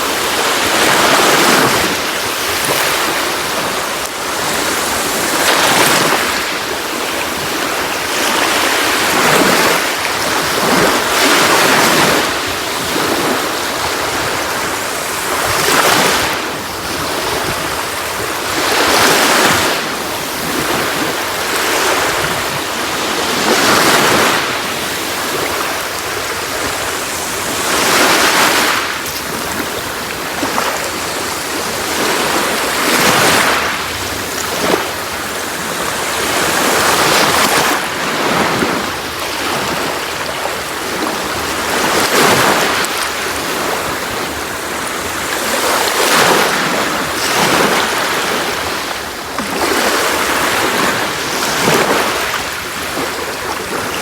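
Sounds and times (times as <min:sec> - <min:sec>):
sea waves washing onto shore: 0:00.0 - 0:54.0.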